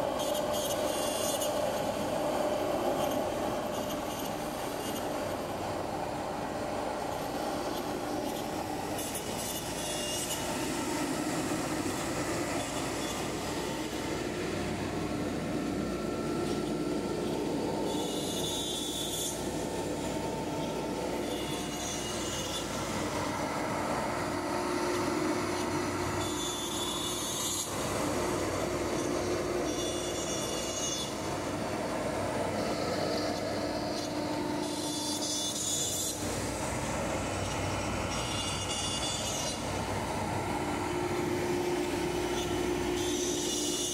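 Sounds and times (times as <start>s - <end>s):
workshop machinery running: 0.0s - 43.9s.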